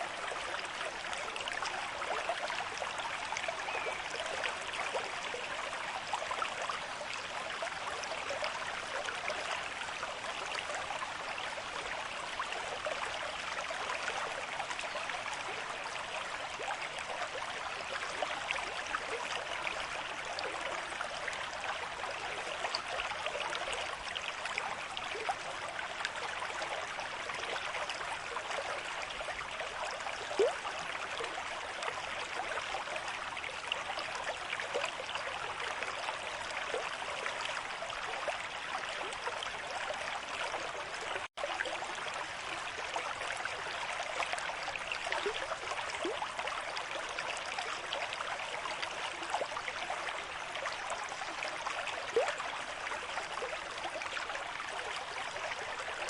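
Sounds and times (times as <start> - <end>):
stream water rushing and babbling: 0.0 - 56.0.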